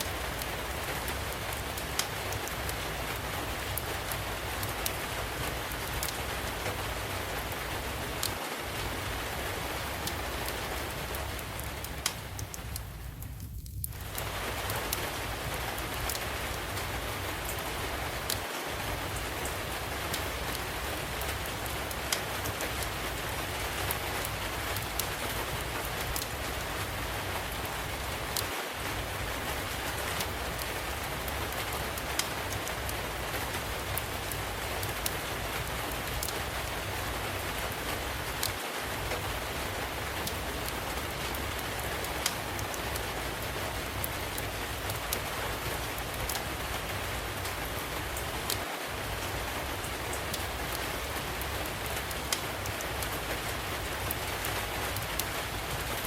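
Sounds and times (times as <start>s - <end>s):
steady rain: 0.0s - 56.0s
wood fire popping and crackling: 0.0s - 56.0s.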